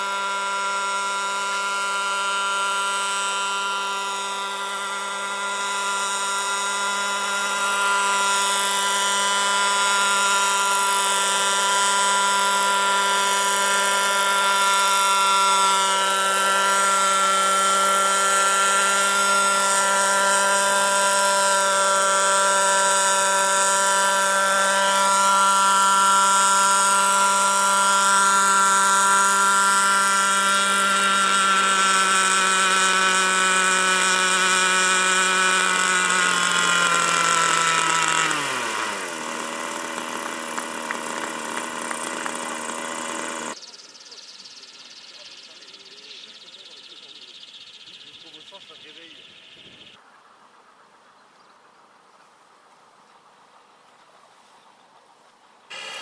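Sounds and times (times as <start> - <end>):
model helicopter engine whine: 0.0 - 50.0, 55.7 - 56.0.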